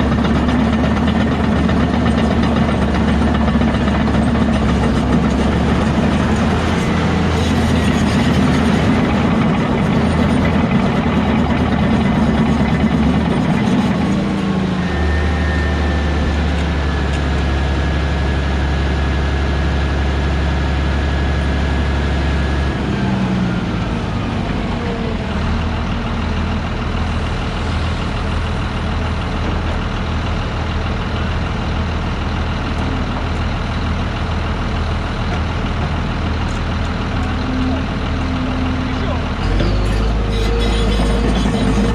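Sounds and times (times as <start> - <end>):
diesel machinery engine drone: 0.0 - 41.9.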